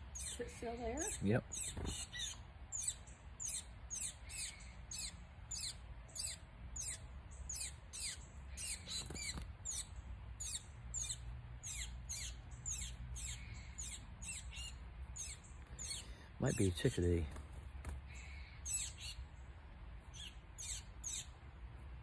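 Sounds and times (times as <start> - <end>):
songbird chip calls: 0.0 - 16.8, 18.1 - 19.4, 20.1 - 21.4.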